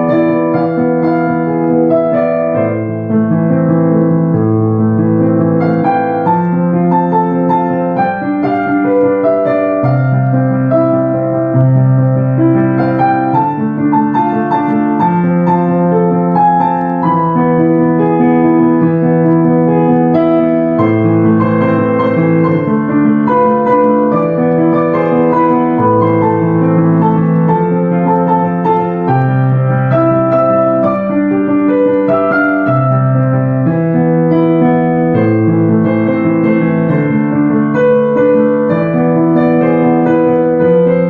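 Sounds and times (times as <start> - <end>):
slow piano music: 0.0 - 41.0.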